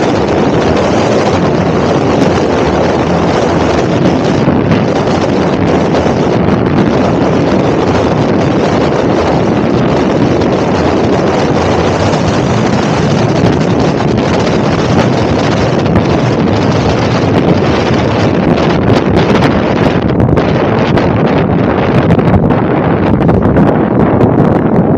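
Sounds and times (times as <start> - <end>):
wind rush on microphone: 0.0 - 24.9.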